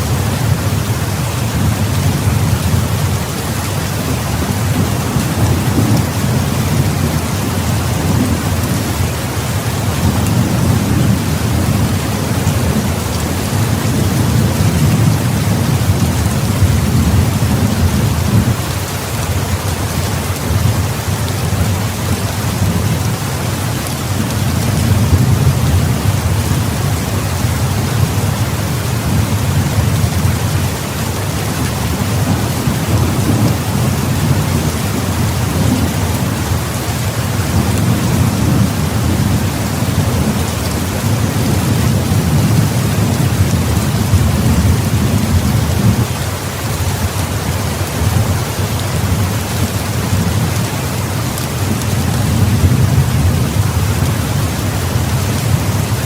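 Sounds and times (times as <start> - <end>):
heavy rain falling: 0.0 - 56.0
low thunder rumbling: 0.0 - 56.0.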